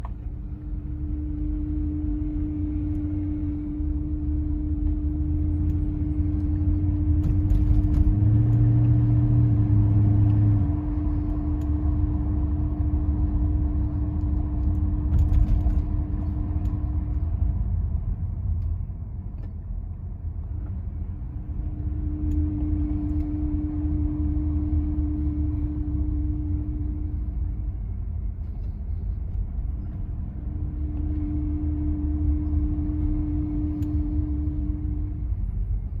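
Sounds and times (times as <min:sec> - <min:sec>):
car engine rumble: 0:00.0 - 0:36.0
deep drone: 0:00.0 - 0:36.0
steady engine hum: 0:00.0 - 0:36.0.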